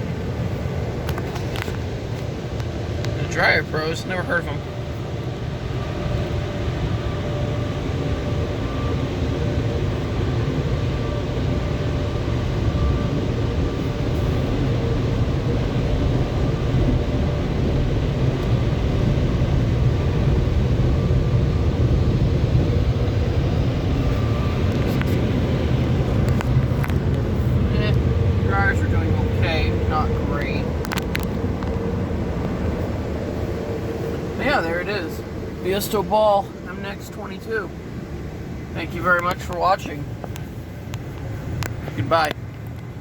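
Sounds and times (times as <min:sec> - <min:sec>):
car wash blower dryers: 0:00.0 - 0:43.0.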